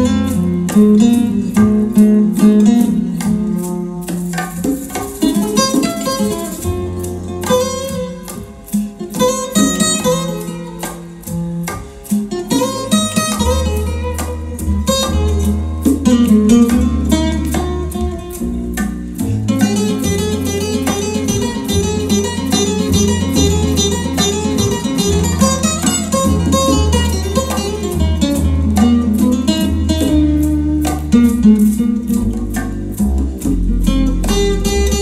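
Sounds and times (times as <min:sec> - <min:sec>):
plucked guitar: 0:00.0 - 0:35.0
steady bass line: 0:00.0 - 0:35.0.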